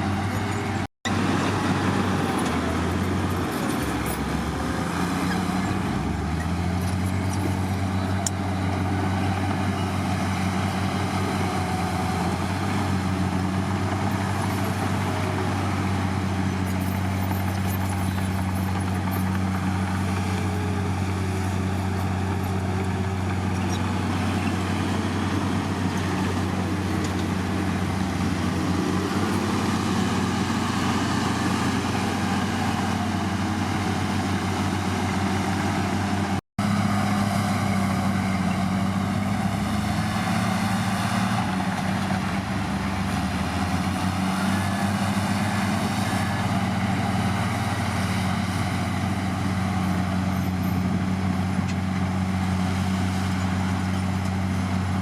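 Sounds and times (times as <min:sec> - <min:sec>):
heavy diesel engine humming: 0:00.0 - 0:55.0.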